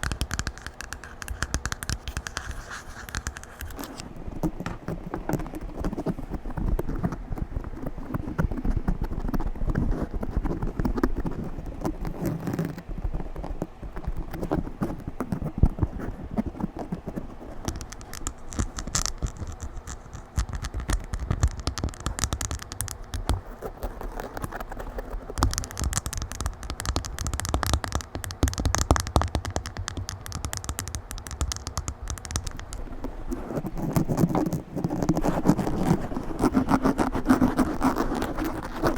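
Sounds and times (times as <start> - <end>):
fingers scratching on microphone: 0.0 - 38.9.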